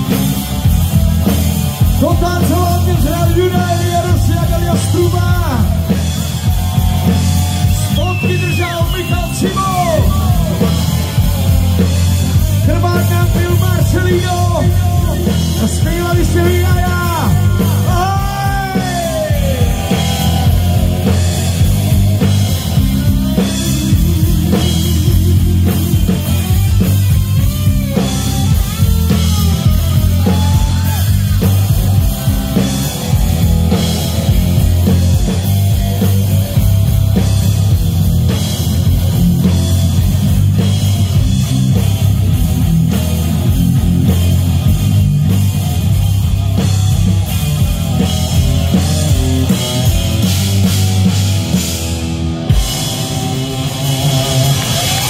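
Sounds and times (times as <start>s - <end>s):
bass and drums: 0.0s - 55.0s.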